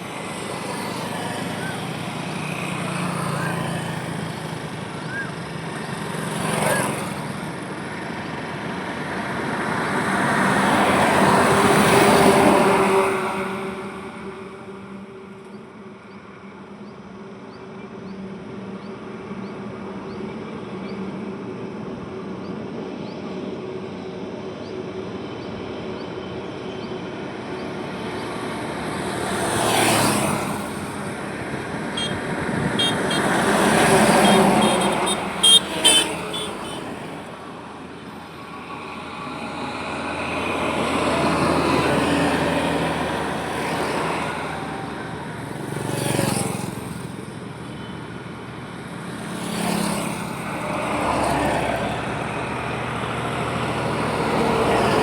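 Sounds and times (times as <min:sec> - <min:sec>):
highway traffic rumble: 0:00.0 - 0:55.0
vehicles passing: 0:00.0 - 0:55.0.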